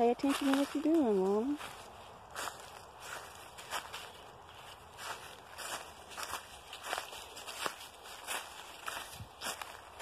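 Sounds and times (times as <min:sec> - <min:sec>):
footsteps on dry pine needles: 0:00.0 - 0:10.0.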